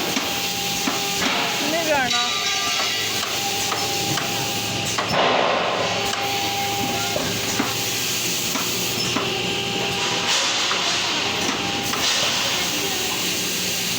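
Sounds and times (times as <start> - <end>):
pneumatic pin clack: 0.0 - 13.9
workshop machine noise: 0.0 - 13.9.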